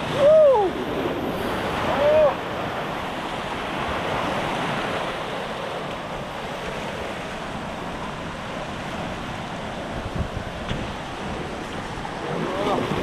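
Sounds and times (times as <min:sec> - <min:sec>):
surf breaking over rocks: 0:00.0 - 0:13.0
wind noise on microphone: 0:00.0 - 0:13.0.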